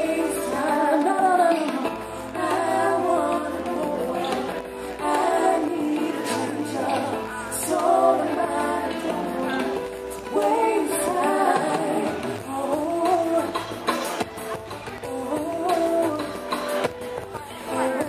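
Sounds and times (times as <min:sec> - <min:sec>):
woman singing: 0:00.0 - 0:14.0, 0:15.0 - 0:18.0
live band with bass: 0:00.0 - 0:18.0.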